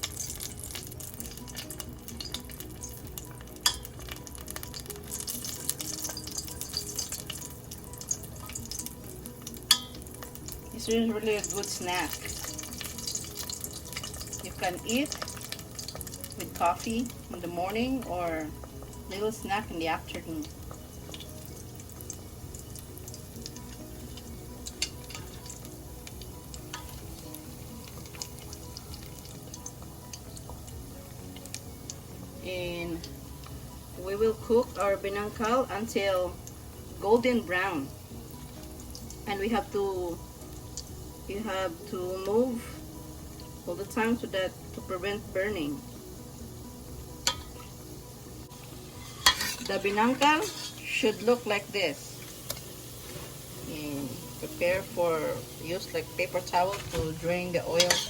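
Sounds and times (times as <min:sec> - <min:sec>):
dough deep-frying in oil: 0:00.0 - 0:58.0
soft background music: 0:00.0 - 0:58.0.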